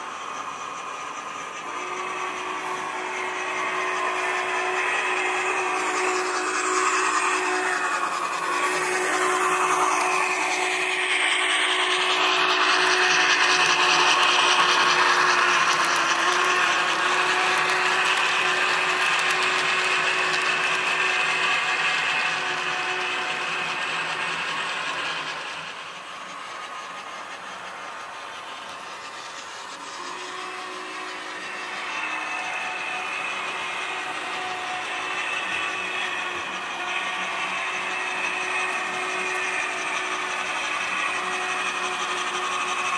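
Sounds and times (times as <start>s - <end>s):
model train motor whirring: 0.0s - 42.9s.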